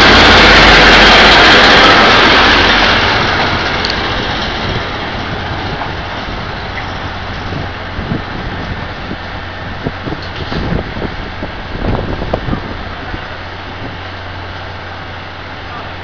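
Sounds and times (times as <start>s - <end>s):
diesel locomotive engine: 0.0s - 16.0s
train wheel noise: 0.0s - 16.0s.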